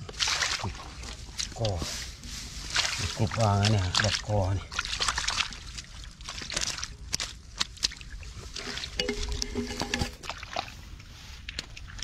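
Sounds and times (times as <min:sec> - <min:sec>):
hands squelching in wet mud: 0:00.0 - 0:12.0
small water splashes: 0:00.0 - 0:12.0.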